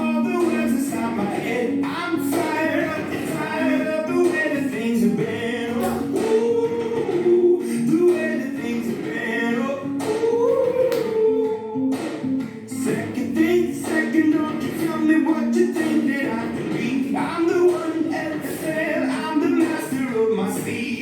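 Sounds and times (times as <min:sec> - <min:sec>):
song with singing voices: 0:00.0 - 0:21.0.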